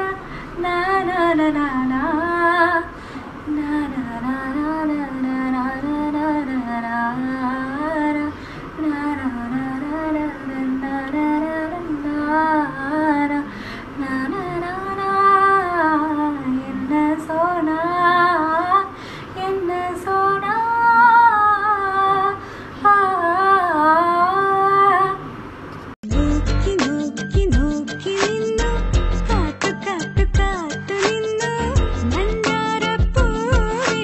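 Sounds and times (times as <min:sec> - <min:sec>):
woman singing wordless melody: 0:00.0 - 0:25.4, 0:26.0 - 0:34.0.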